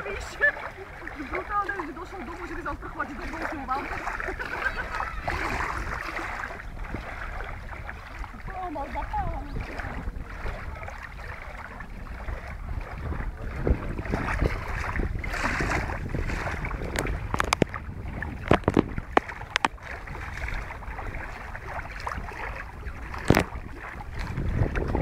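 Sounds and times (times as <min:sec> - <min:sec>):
wind blowing on microphone: 0:00.0 - 0:25.0.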